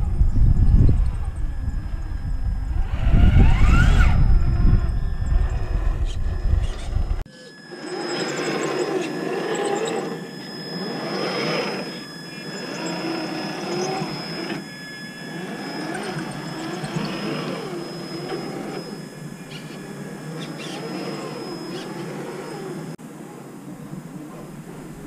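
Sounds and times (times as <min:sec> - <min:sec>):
rc car electric motor whining: 0:00.0 - 0:23.0.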